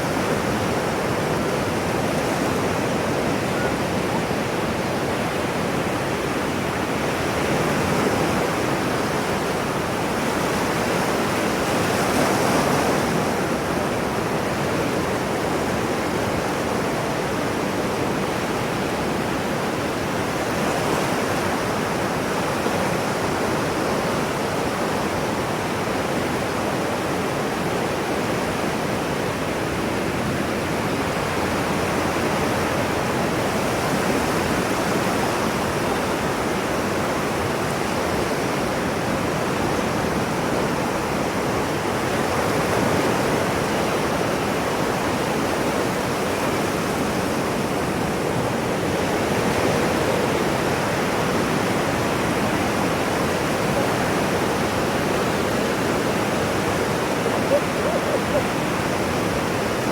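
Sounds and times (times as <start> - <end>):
ocean waves surf: 0.0 - 59.9.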